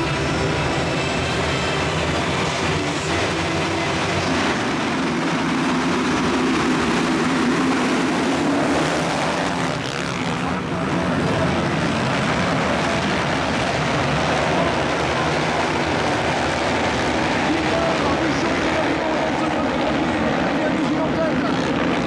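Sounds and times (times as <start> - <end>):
motocross bikes revving and accelerating: 2.4 - 22.0.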